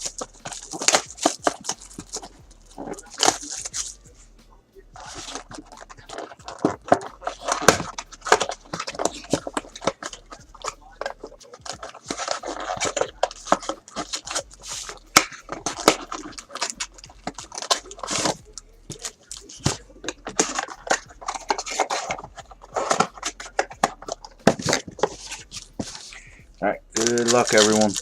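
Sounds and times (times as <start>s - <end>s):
card wrappers crinkling and tearing: 0.0s - 4.0s, 5.0s - 26.3s, 27.0s - 28.0s.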